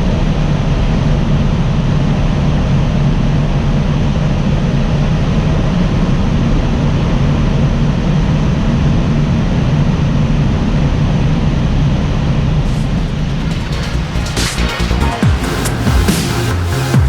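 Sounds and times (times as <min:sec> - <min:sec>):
car engine drone: 0:00.0 - 0:17.0.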